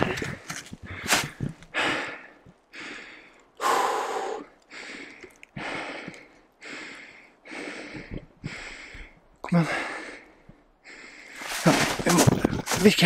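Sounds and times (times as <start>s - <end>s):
man breathing hard: 0.0s - 12.6s.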